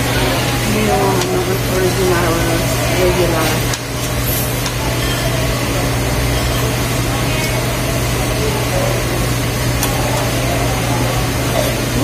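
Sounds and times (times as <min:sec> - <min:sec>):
low mechanical hum: 0:00.0 - 0:12.0
restaurant background din: 0:00.0 - 0:12.0.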